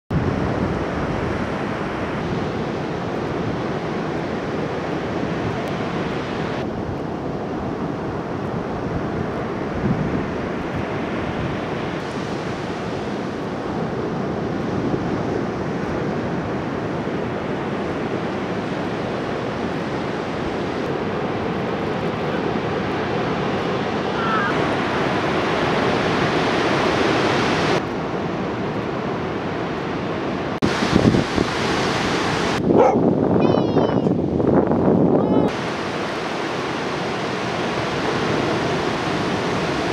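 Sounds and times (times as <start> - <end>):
waves breaking: 0.1 - 33.0, 35.2 - 39.9.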